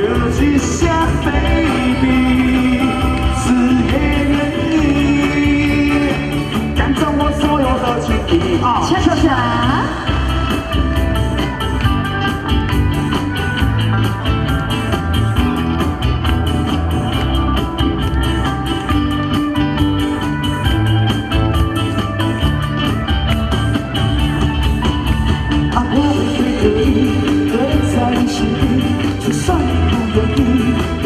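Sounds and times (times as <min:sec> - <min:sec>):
live band playing instrumental: 0:00.0 - 0:31.0.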